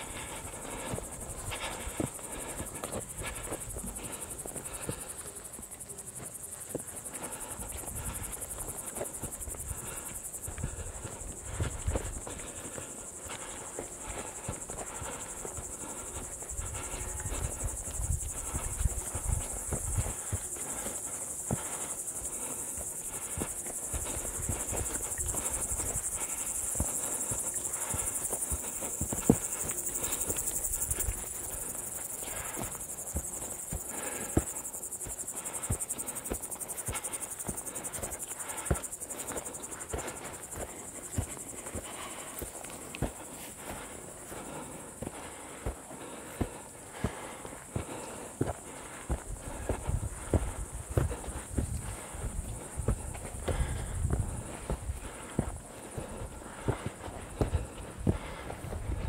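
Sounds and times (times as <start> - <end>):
crickets trilling: 0.0 - 59.0
footsteps on a trail: 0.0 - 59.0.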